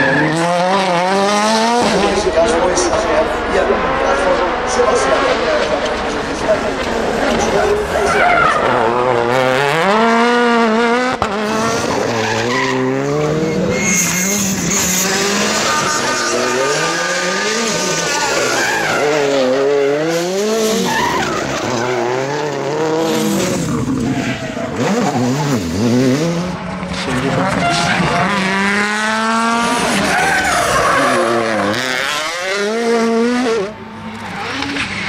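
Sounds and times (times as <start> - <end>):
rally car engines revving: 0.0 - 35.0
tyres skidding: 0.0 - 35.0.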